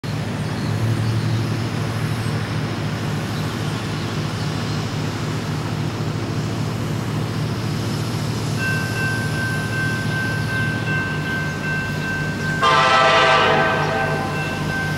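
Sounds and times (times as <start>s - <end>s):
diesel locomotive engine droning: 0.0s - 14.9s.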